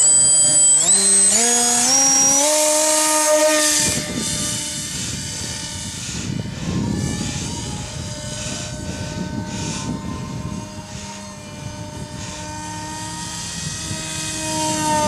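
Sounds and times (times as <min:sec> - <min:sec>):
model plane electric motor whining: 0:00.0 - 0:15.0.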